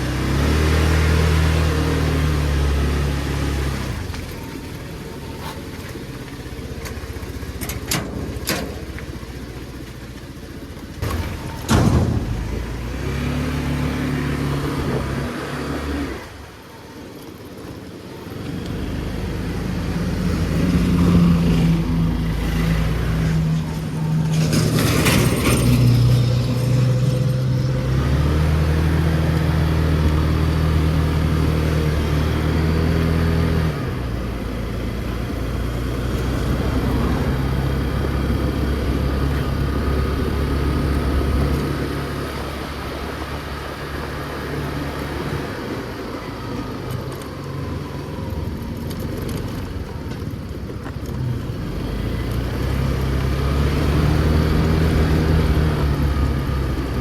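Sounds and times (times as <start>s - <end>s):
motor scooter engine running: 0.0s - 57.0s
road and wind noise: 0.0s - 57.0s.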